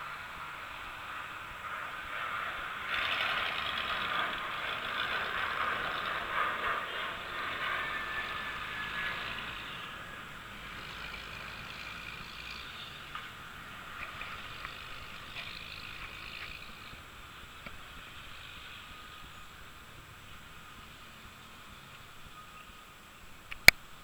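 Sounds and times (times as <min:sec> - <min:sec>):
jet engine roar at takeoff: 0:00.0 - 0:23.4.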